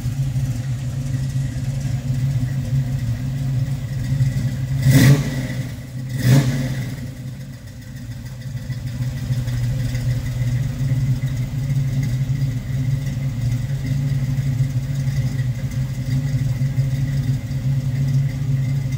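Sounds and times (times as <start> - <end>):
car engine revving and idling: 0.0 - 18.9.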